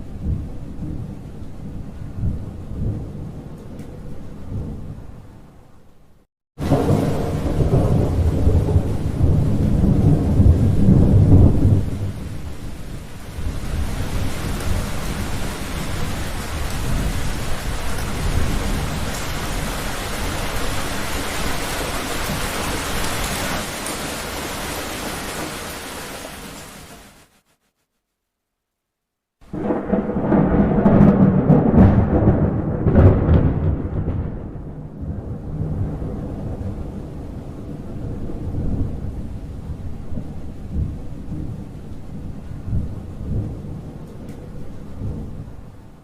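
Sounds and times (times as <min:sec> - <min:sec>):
thunder rumbling: 0:00.0 - 0:05.6, 0:06.6 - 0:26.8, 0:29.5 - 0:46.0
heavy rain: 0:06.6 - 0:27.5, 0:29.4 - 0:46.0.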